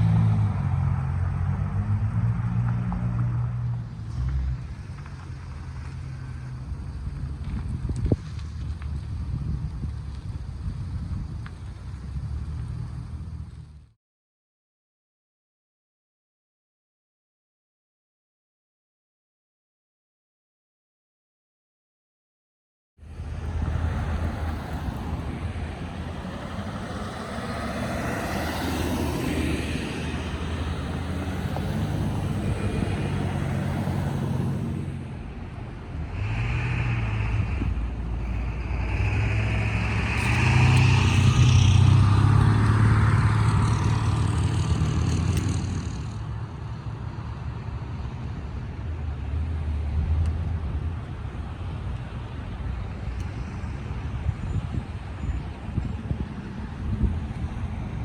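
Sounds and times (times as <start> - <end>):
vehicle engines humming: 0.0 - 13.9, 23.0 - 58.0
road noise: 0.0 - 14.0, 23.0 - 58.0.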